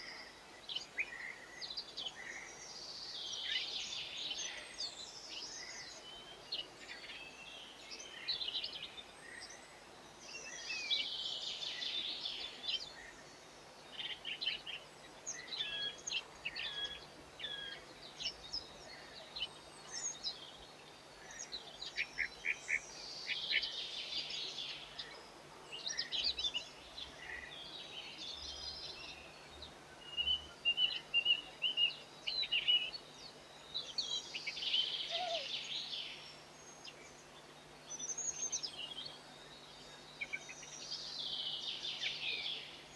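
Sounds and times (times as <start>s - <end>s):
songbirds chirping and twittering: 0.0s - 42.9s.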